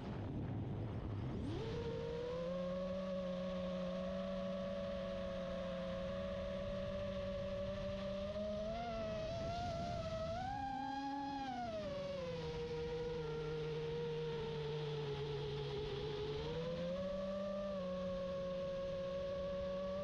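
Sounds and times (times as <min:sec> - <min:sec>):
quadcopter motors whining: 0:01.4 - 0:20.0.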